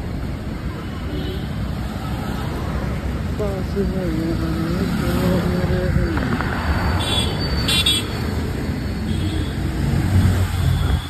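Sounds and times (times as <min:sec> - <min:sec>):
road traffic on wet street: 0:00.0 - 0:11.0.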